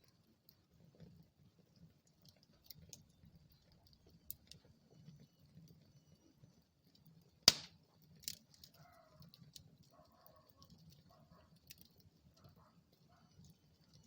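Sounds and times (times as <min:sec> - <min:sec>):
fire popping: 0:00.0 - 0:14.0
low rumble of flames: 0:00.0 - 0:14.0
wood fire crackling: 0:00.0 - 0:14.0.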